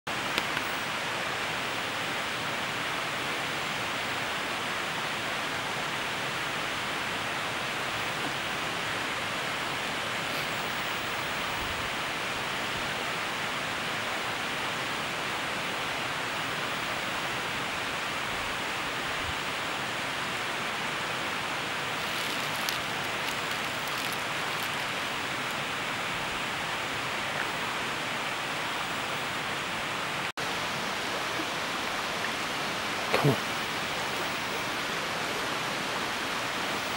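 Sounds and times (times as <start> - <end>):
running water: 0.1 - 36.9.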